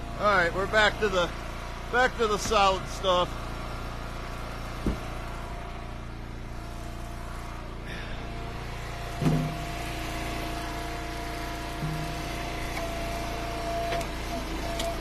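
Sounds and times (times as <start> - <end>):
wood splitter engine running: 0.0 - 15.0.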